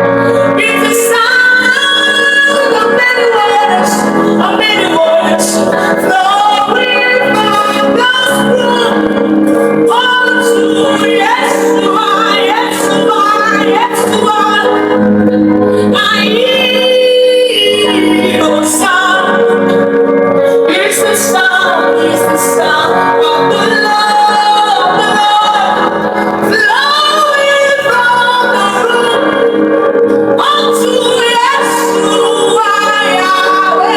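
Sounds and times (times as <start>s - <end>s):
woman singing: 0.0s - 33.9s.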